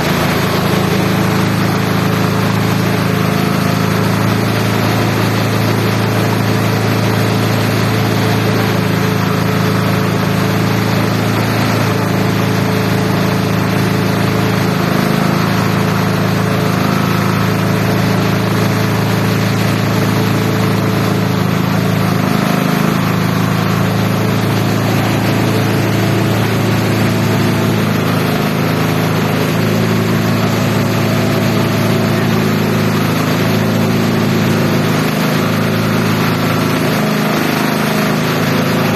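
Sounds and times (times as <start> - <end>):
shredder machine droning: 0.0 - 38.9.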